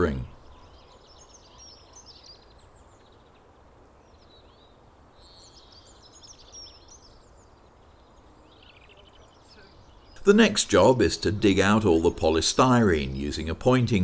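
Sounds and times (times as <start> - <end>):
faint outdoor hum: 0.0 - 14.0
songbirds chirping: 0.0 - 14.0.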